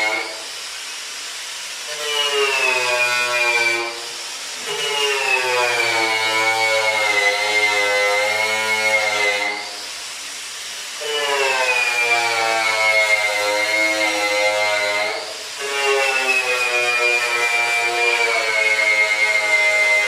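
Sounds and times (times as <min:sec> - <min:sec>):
electric grinder on sheet metal: 0:00.0 - 0:20.0.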